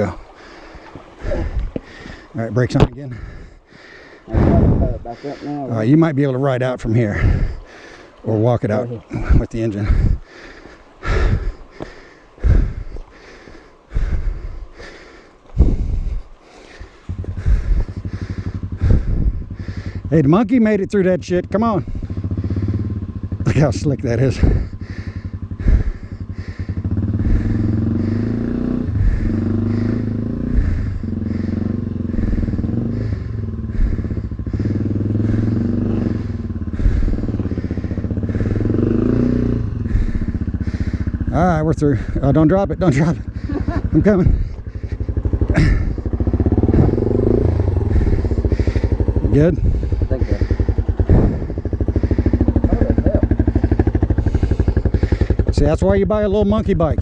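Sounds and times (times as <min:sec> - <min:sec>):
engine knocks: 0:00.0 - 0:05.6, 0:09.0 - 0:57.0
motorcycle engine revving: 0:00.0 - 0:57.0
man breathing hard: 0:00.1 - 0:02.4, 0:03.0 - 0:05.7, 0:07.0 - 0:08.2, 0:09.0 - 0:20.1, 0:21.7 - 0:23.4, 0:24.2 - 0:55.6.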